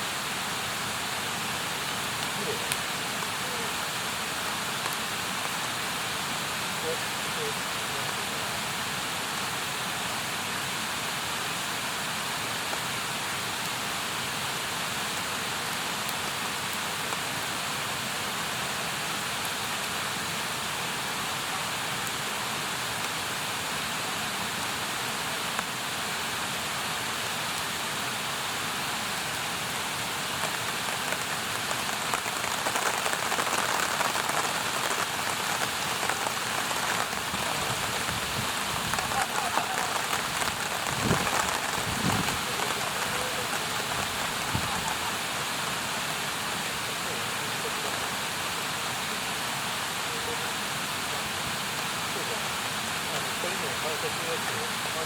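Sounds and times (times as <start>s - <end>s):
campfire hissing and crackling: 0.0s - 55.0s.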